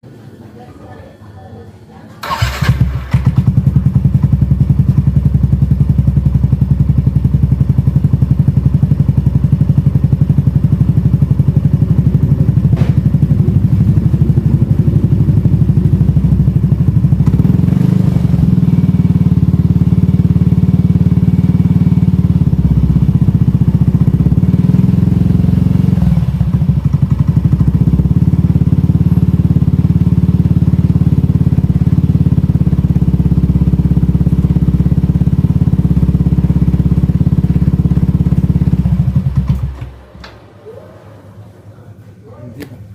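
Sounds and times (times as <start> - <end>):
scooter engine idling: 2.2 - 42.9.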